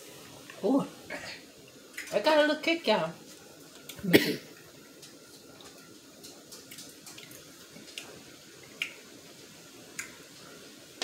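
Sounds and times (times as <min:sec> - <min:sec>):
sauce sizzling in a pot: 0:00.0 - 0:11.0.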